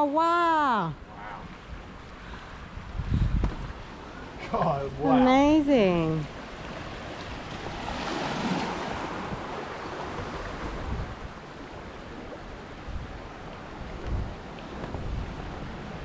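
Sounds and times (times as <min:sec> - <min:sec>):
ocean waves breaking: 0:00.0 - 0:16.0
wind buffeting microphone: 0:00.7 - 0:16.0.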